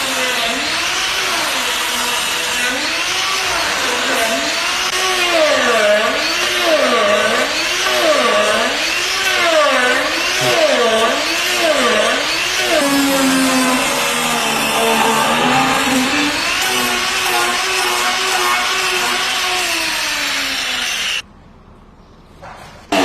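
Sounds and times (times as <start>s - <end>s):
angle grinder whining: 0.0s - 21.2s
disc cutting wood: 0.0s - 21.2s.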